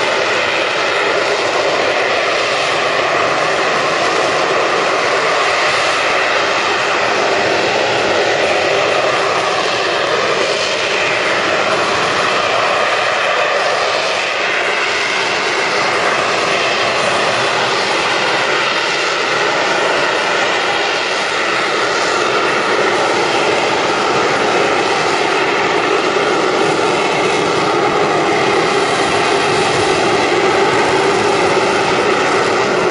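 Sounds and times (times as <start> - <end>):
jet engine roaring while hovering: 0.0 - 32.9.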